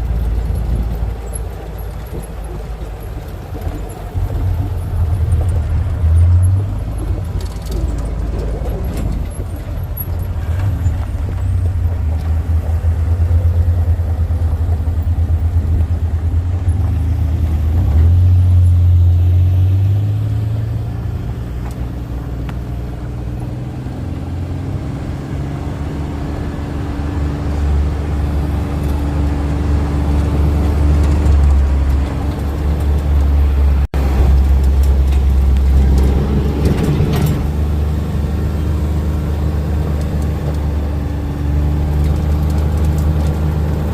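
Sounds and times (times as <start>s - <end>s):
vehicle engine revving: 0.0s - 43.9s.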